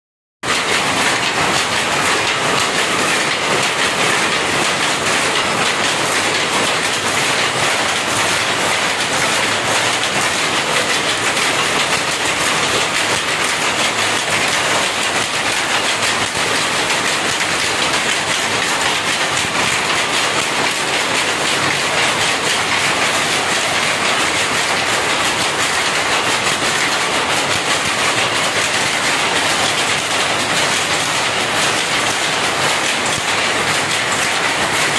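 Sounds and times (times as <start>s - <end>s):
power loom clattering: 0.4s - 34.9s.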